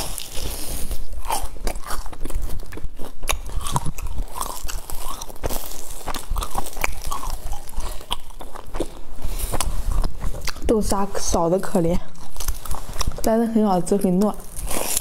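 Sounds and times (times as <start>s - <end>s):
crunchy chewing: 0.0s - 10.8s, 12.0s - 13.3s, 14.1s - 15.0s.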